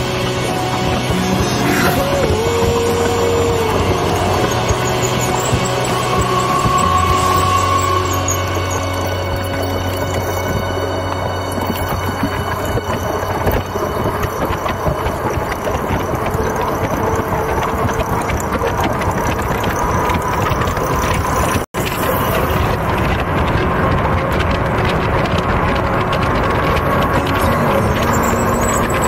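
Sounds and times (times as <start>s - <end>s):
bicycle tyre noise: 0.0s - 29.0s
wind rushing over microphone: 0.0s - 29.0s.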